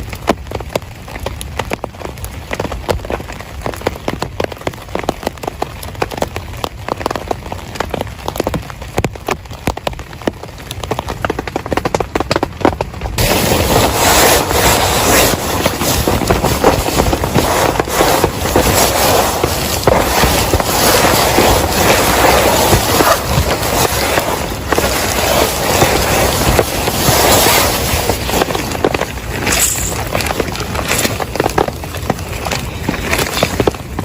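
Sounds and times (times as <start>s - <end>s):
heavy rain: 0.0s - 34.0s
raindrops tapping on surface: 0.0s - 34.0s.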